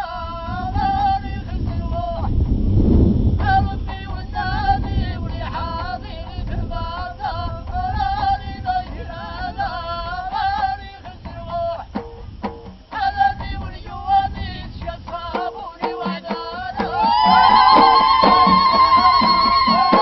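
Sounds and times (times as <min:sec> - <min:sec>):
women singing a chant: 0:00.0 - 0:02.3, 0:03.4 - 0:12.0, 0:12.8 - 0:20.0.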